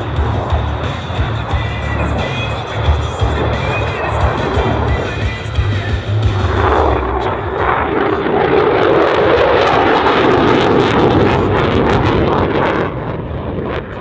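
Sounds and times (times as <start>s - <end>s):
jet engine roaring flyby: 0.0s - 14.0s.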